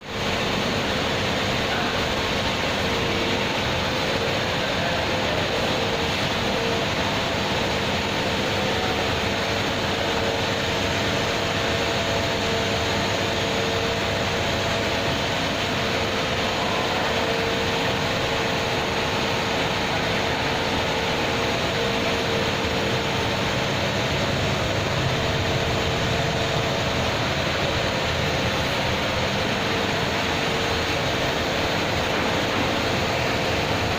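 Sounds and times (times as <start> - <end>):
van engine running steadily: 0.2 - 33.9.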